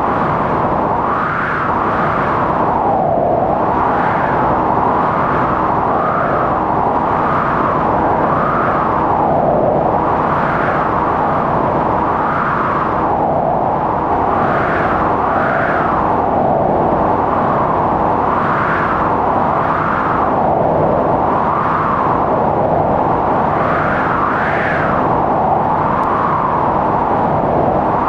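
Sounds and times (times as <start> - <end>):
blizzard wind howling: 0.0 - 28.0.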